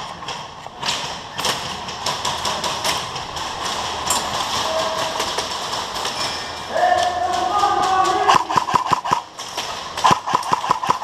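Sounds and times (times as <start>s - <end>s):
sharp clicks and thuds: 0.0s - 11.0s.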